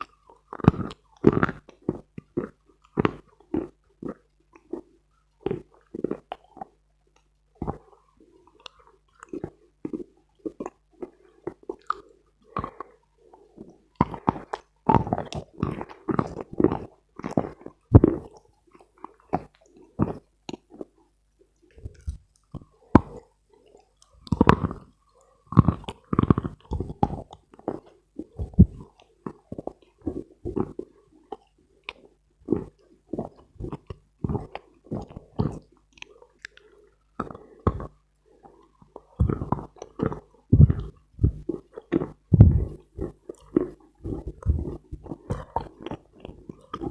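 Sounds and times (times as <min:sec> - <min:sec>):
person chewing crunchy chalk: 0:00.0 - 0:06.8, 0:08.6 - 0:13.0, 0:13.6 - 0:21.0, 0:21.7 - 0:46.9.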